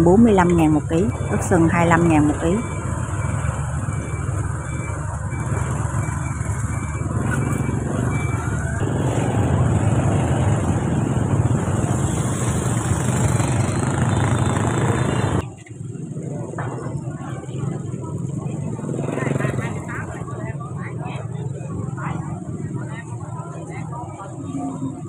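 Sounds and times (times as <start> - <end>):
motorbike engines running: 0.0 - 25.0.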